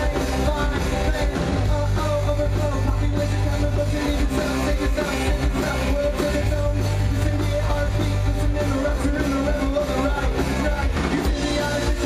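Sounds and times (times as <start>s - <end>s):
drum beat: 0.0s - 12.0s
electric guitars: 0.0s - 12.0s.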